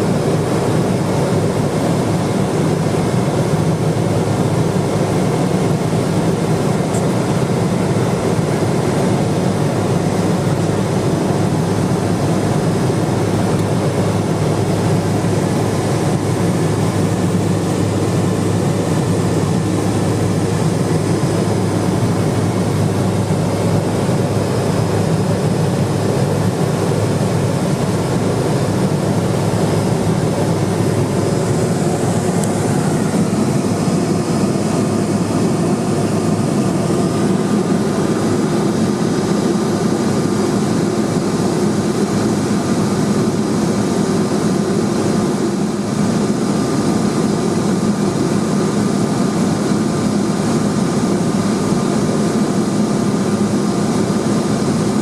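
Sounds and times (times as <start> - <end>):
propeller plane droning in flight: 0.0 - 55.0.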